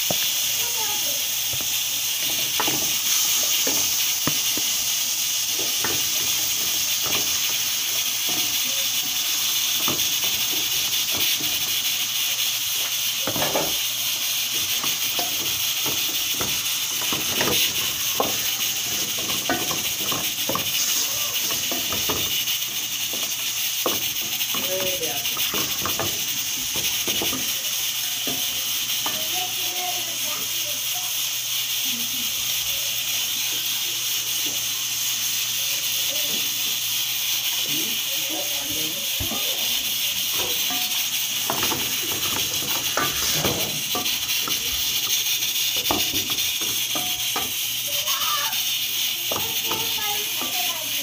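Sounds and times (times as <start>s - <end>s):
fish sizzling in oil: 0.0s - 51.0s.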